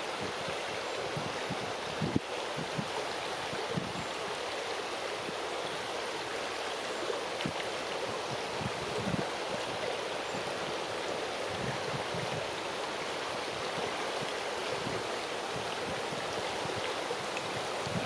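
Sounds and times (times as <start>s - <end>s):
wind rustling tree leaves: 0.0s - 18.0s
wind buffeting microphone: 0.1s - 4.1s, 7.4s - 18.0s.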